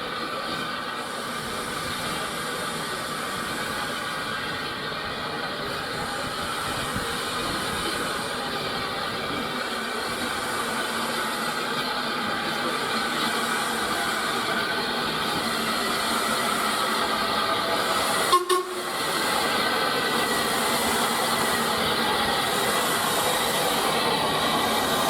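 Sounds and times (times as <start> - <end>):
steam train running: 0.0 - 25.0.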